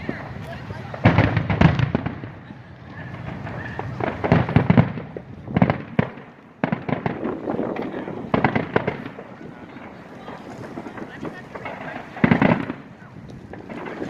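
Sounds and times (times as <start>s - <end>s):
fireworks crackling bangs: 0.0s - 14.0s
fireworks rumbling booms: 0.0s - 14.0s.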